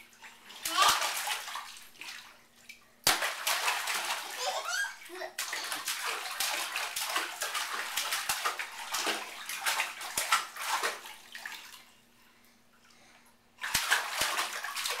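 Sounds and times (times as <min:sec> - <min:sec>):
baby splashing bath water: 0:00.0 - 0:15.0.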